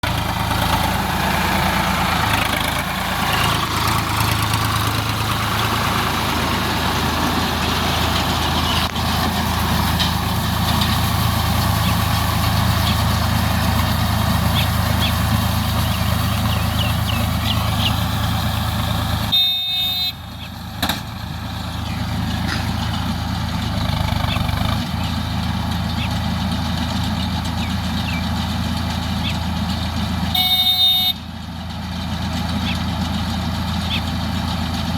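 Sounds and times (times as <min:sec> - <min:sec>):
baler machinery clatter: 0:00.0 - 0:19.3, 0:20.8 - 0:30.3
tractor engine running: 0:00.0 - 0:34.9.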